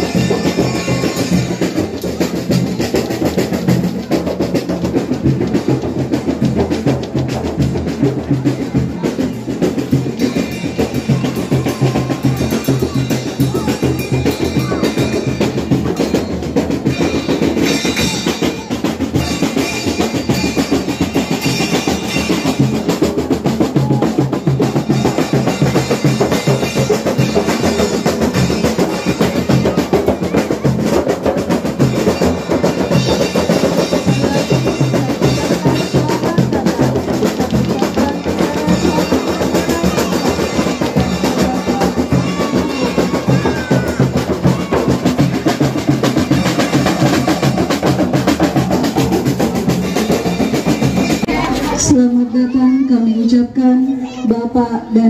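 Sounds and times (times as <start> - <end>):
frame drums struck by hand: 0.0 - 51.9.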